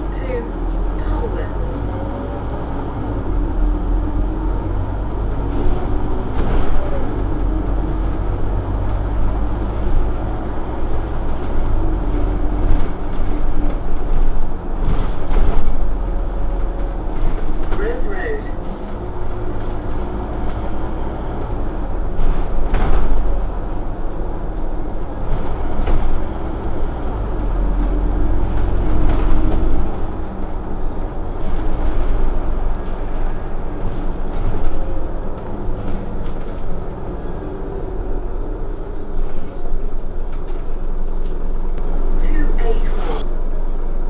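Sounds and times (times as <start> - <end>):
bus body rattling and knocking: 0.0 - 44.0
bus engine rumbling: 0.0 - 44.0.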